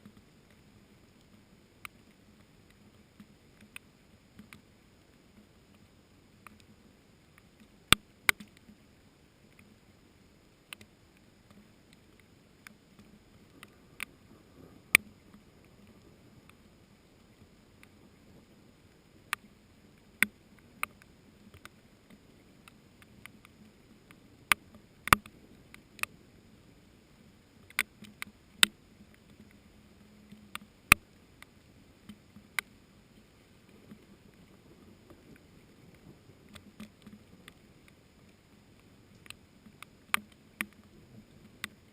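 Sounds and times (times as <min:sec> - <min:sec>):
faint hiss of rain: 0:00.0 - 0:41.9
raindrops dripping: 0:00.0 - 0:41.9.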